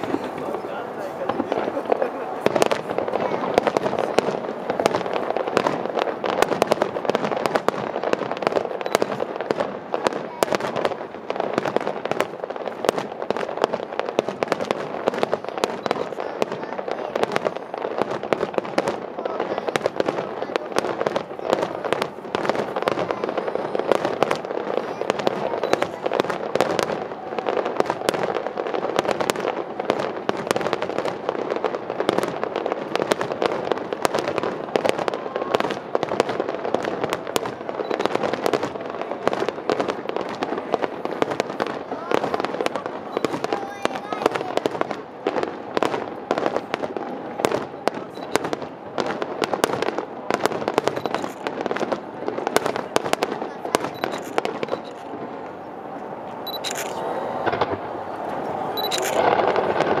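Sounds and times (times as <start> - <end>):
fireworks bangs and crackles: 0.0 - 60.0.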